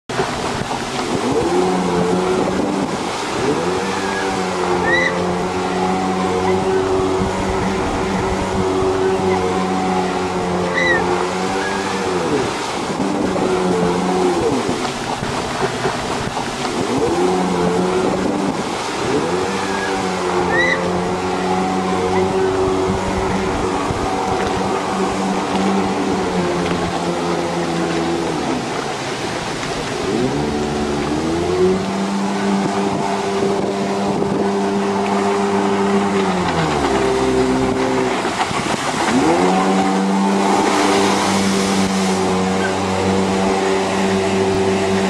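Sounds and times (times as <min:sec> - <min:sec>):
jet ski engine revving: 0:00.1 - 0:45.0.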